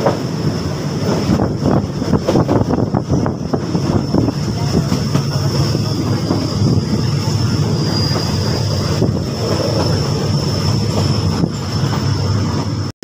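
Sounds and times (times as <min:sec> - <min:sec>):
train carriage rumbling: 0:00.0 - 0:12.9.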